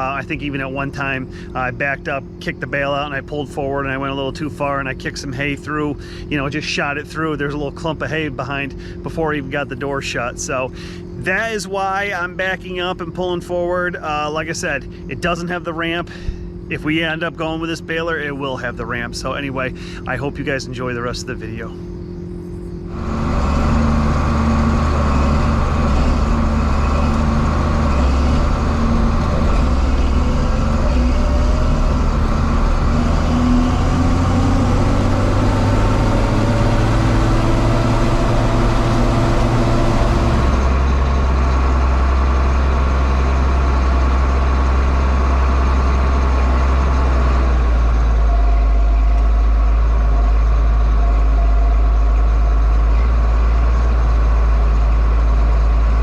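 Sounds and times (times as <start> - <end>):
deep heavy hum: 0.0 - 56.0
faint rising whine: 0.0 - 56.0
tractor diesel engine running: 0.0 - 56.0.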